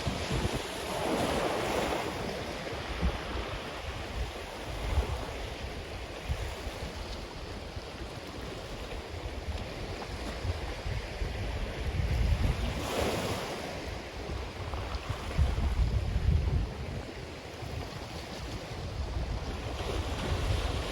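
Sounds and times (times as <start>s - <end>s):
ocean waves washing onto beach: 0.0s - 20.9s
wind buffeting microphone: 0.0s - 20.9s.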